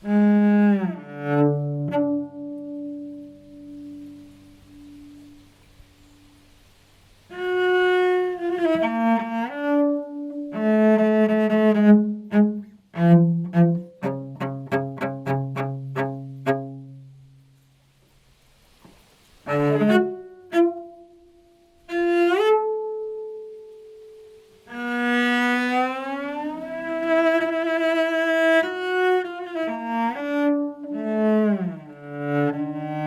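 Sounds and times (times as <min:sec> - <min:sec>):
cello playing: 0:00.0 - 0:05.5, 0:07.3 - 0:17.6, 0:19.4 - 0:33.0.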